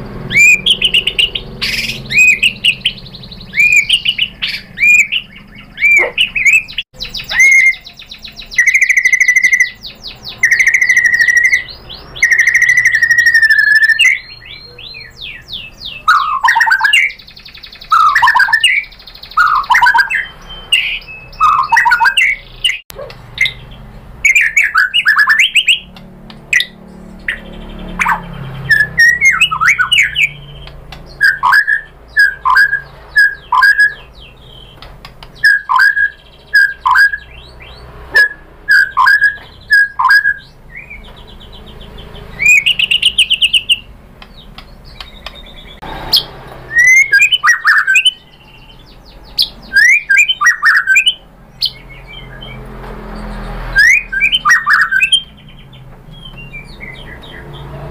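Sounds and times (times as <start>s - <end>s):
bird singing loud whistles: 0.3s - 22.8s, 24.2s - 25.9s, 26.5s - 34.8s, 35.4s - 41.1s, 42.2s - 43.9s, 44.8s - 52.6s, 53.2s - 55.6s.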